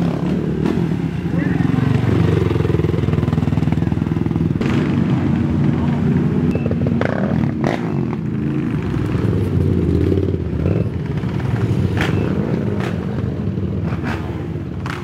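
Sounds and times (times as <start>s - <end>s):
racing quad engines running: 0.0s - 15.0s.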